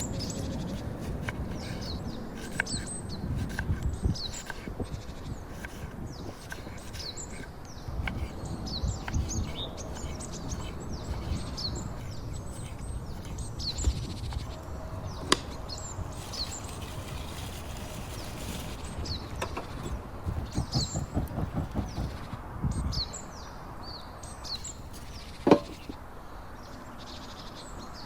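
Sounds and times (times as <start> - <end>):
wind rumble on microphone: 0.0 - 25.9
small birds chirping: 0.0 - 28.0.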